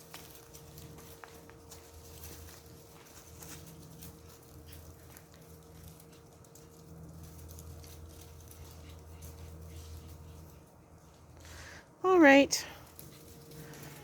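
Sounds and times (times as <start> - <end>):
puppy paws pattering: 0.0 - 14.0
steady low hum: 0.0 - 14.0.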